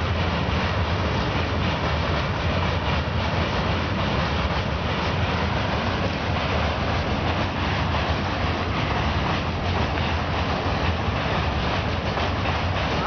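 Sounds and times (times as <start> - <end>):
train rumbling over steel bridge: 0.0 - 13.0.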